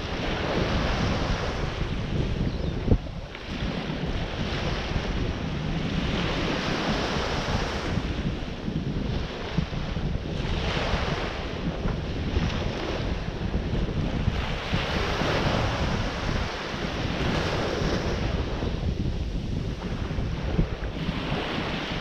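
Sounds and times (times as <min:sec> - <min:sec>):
ocean surf washing: 0:00.0 - 0:22.0
wind buffeting microphone: 0:00.0 - 0:22.0.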